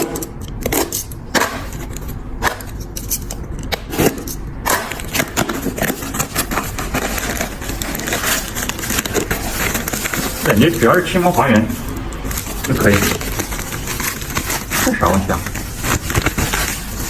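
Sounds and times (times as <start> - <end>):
parcel packaging being handled: 0.0 - 17.0
steady low hum: 0.0 - 17.0.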